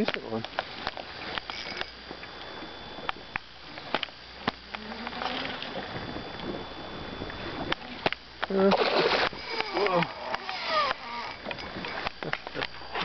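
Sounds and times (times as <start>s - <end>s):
fishing reel whirring: 0.8s - 2.2s, 2.9s - 13.0s.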